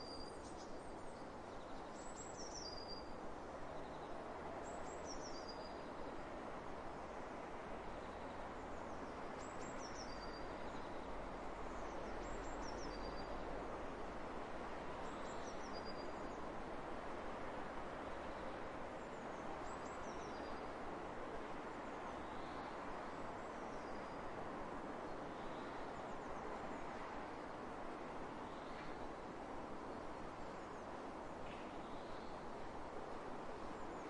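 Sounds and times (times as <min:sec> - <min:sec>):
wind across open fields: 0:00.0 - 0:34.0.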